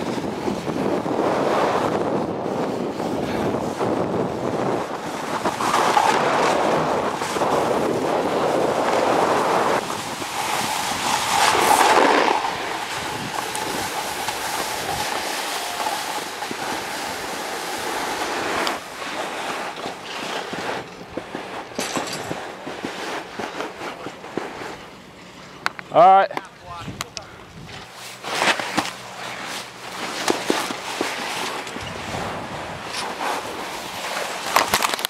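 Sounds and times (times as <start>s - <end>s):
wind buffeting microphone: 0.0s - 28.0s, 30.4s - 34.9s.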